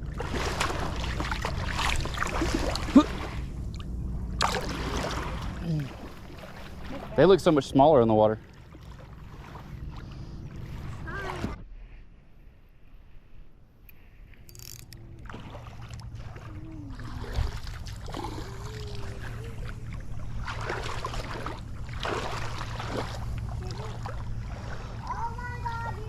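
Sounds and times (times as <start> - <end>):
boat motor droning: 0.0 - 11.6, 14.5 - 26.0.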